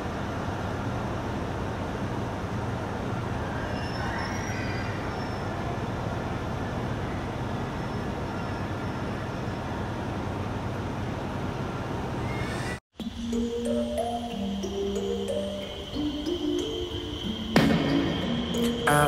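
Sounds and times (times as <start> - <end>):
trains rumbling and humming: 0.0 - 19.0.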